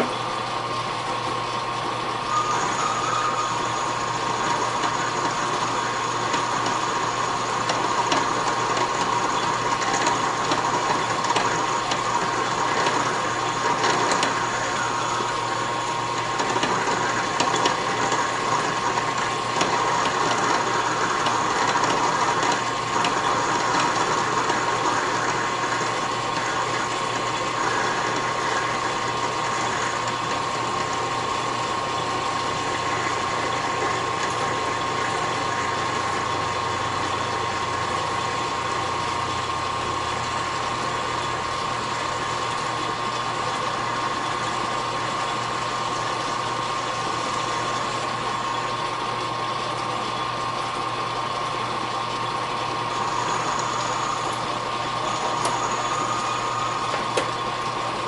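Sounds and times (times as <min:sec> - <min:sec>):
metal lathe running: 0:00.0 - 0:58.0.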